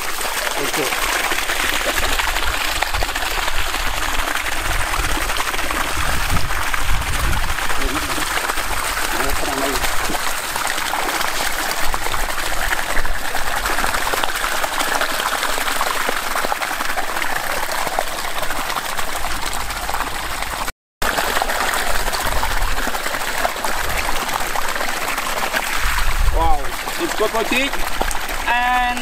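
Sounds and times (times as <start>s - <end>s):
water rushing from pipe: 0.0s - 29.0s.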